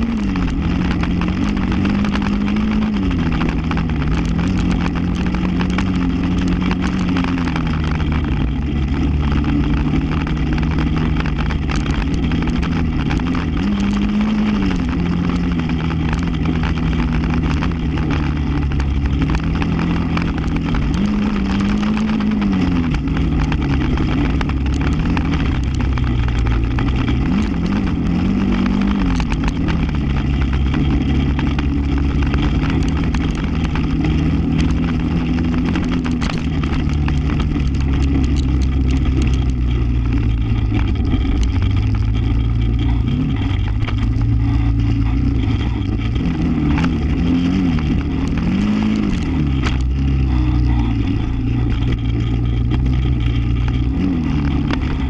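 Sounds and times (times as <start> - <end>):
atv engine running: 0.0 - 55.0
sharp ticks: 0.0 - 55.0.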